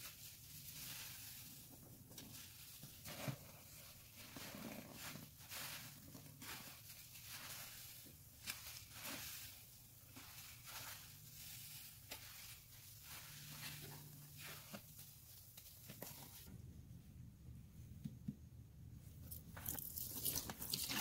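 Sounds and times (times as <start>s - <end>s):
soapy sponge squishing: 0.0s - 16.5s, 19.2s - 21.0s.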